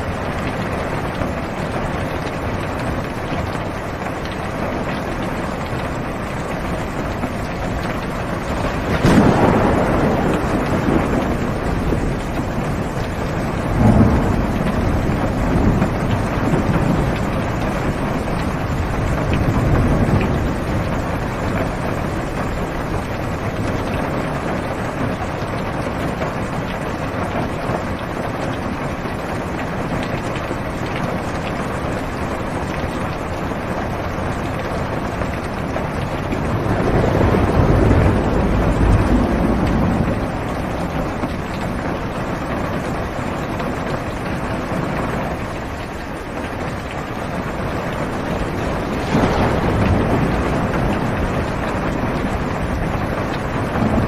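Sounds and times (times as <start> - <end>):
heavy rain on car roof: 0.0 - 54.0
thunder rumbling: 0.0 - 54.0.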